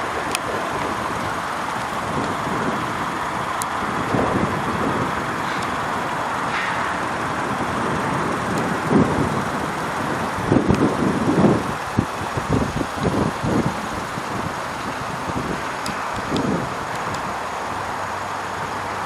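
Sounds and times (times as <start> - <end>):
low rumbles: 0.0 - 19.0
road traffic noise: 0.0 - 19.0.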